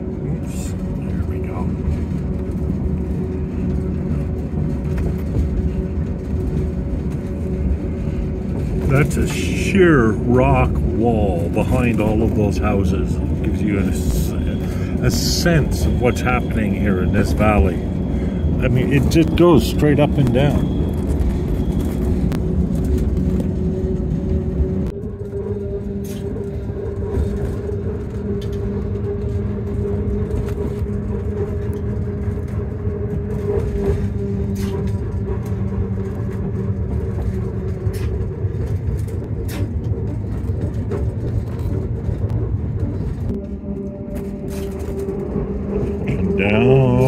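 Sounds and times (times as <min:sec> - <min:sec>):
motor hum: 0:00.0 - 0:47.0
train rumble: 0:00.0 - 0:47.0.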